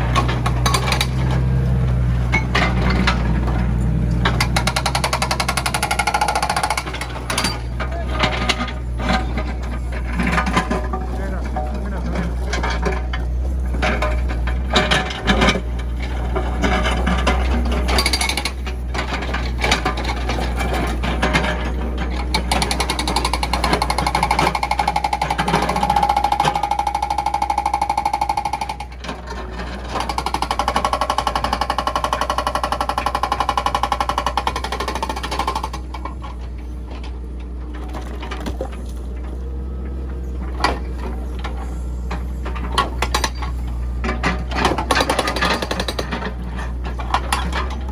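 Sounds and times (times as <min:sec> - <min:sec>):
diesel engine humming and rattling: 0:00.0 - 0:47.9.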